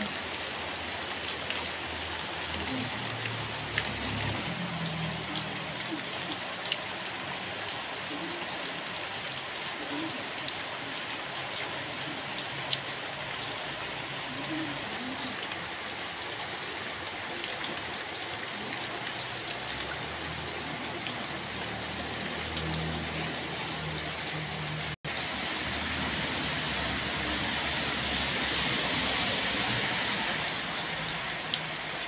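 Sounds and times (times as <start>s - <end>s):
rain on concrete and plastic pots: 0.0s - 32.0s.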